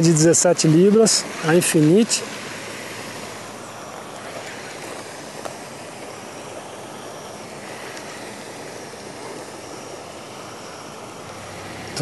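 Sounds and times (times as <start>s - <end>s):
water churned by aerator: 0.0s - 12.0s.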